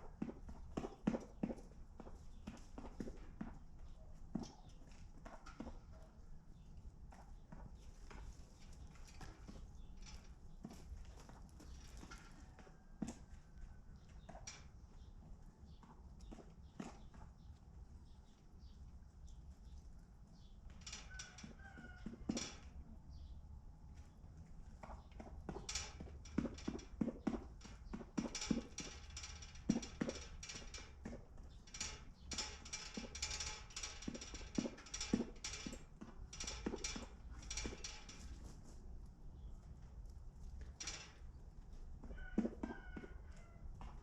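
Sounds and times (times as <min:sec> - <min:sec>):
chickens tapping and knocking: 0:00.0 - 0:18.4, 0:20.4 - 0:38.9, 0:39.6 - 0:44.0.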